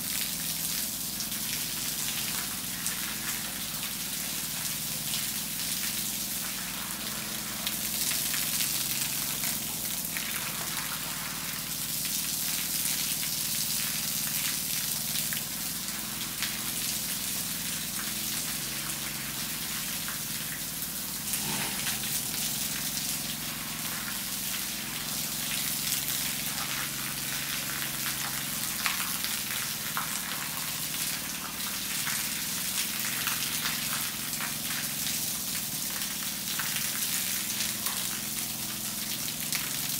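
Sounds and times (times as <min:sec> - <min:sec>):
water jet splashing on concrete: 0:00.0 - 0:39.9.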